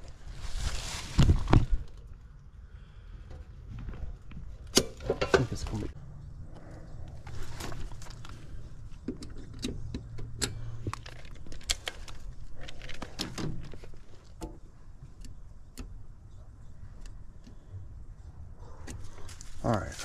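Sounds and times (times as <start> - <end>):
low hum: 0.0 - 19.6.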